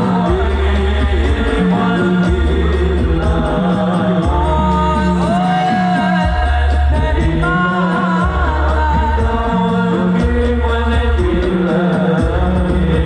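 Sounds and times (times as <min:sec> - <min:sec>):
deep bass accompaniment: 0:00.0 - 0:13.0
man singing into a microphone: 0:00.0 - 0:13.0.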